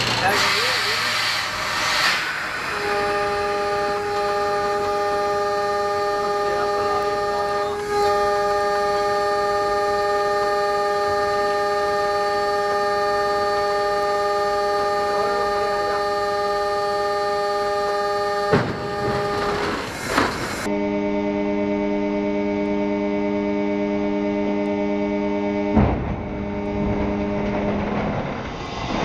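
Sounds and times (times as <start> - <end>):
train running at speed: 0.0 - 29.0
locomotive air horn blast: 0.2 - 28.4.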